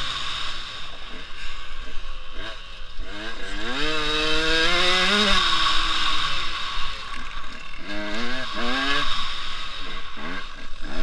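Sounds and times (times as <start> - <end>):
motorbike engine revving hard: 0.0 - 11.0.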